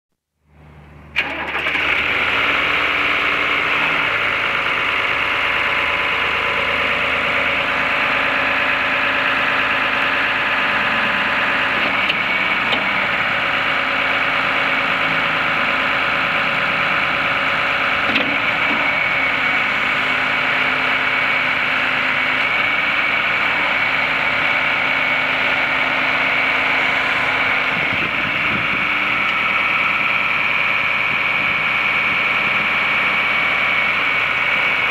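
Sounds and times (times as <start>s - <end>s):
tractor diesel engine running: 0.5s - 34.9s.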